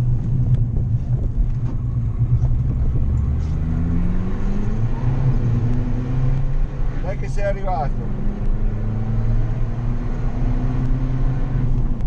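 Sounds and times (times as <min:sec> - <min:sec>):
car engine revving under load: 0:00.0 - 0:12.0.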